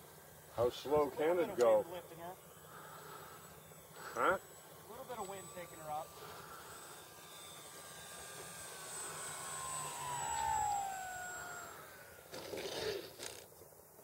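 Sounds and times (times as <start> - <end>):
model airplane motor whining: 0.0 - 13.7.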